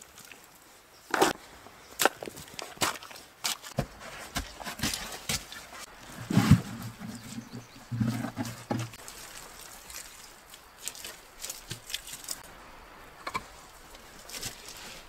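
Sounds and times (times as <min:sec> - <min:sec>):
hands digging soil and stones: 0:00.0 - 0:12.5, 0:13.4 - 0:15.0.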